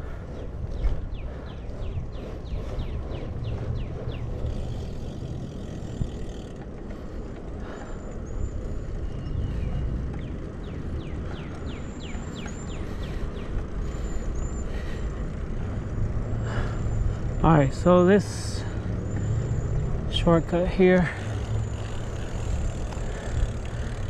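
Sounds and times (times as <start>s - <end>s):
bicycle road rumble: 0.0s - 24.0s
wind: 0.0s - 24.0s.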